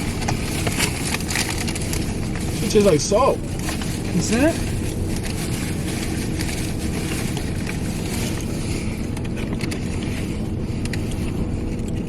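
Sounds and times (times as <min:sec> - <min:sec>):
truck engine running inside cab: 0:00.0 - 0:12.0.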